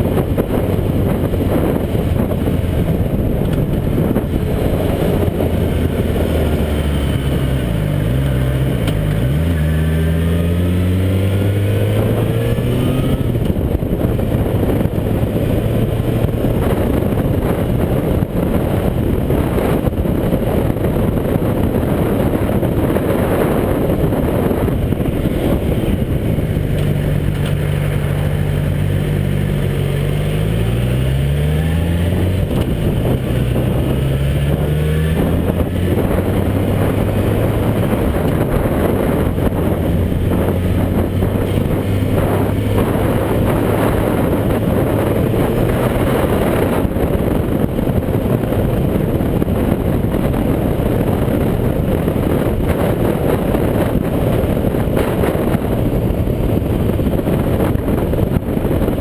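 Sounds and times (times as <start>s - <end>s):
motorcycle engine running: 0.0s - 59.0s
wind rushing past microphone: 0.0s - 59.0s.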